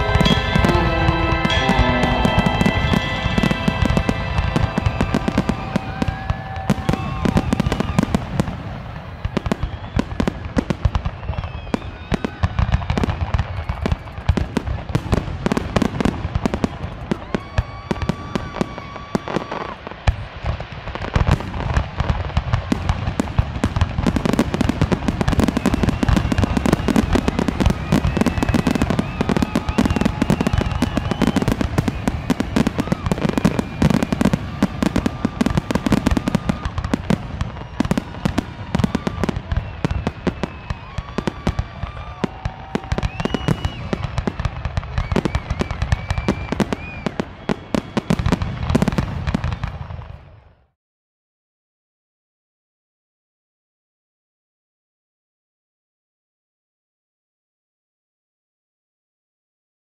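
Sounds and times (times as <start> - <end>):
firework whistling: 0.0 - 50.1
fireworks crackling and popping: 0.0 - 50.5
fireworks deep booms: 0.0 - 50.6.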